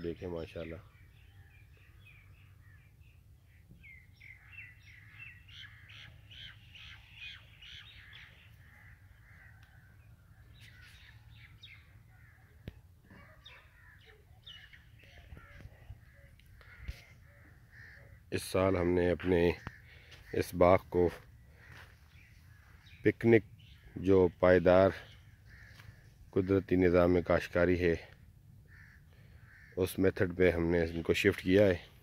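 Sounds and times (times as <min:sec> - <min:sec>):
faint bird chirping: 0:00.0 - 0:26.6.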